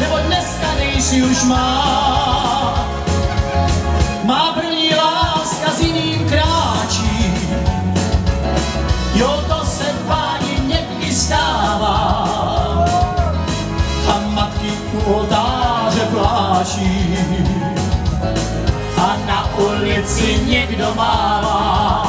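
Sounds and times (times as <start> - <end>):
live keyboard music with beat: 0.0 - 22.0.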